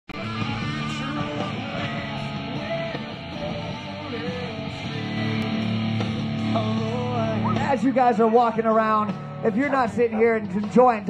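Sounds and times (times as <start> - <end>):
rock music with guitar: 0.1 - 11.0.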